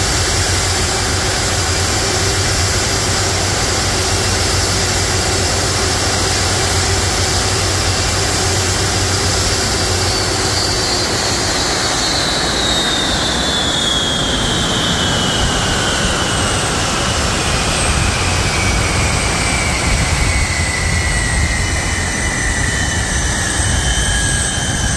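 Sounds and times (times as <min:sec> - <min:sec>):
jet engines spooling down: 0:00.0 - 0:24.9.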